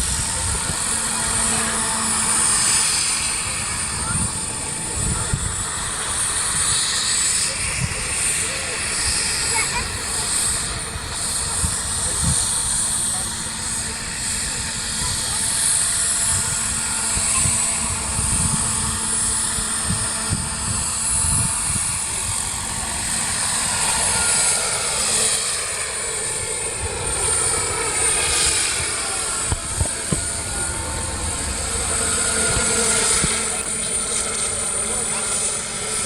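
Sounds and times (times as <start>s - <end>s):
model helicopter turbine and rotors: 0.0s - 36.0s.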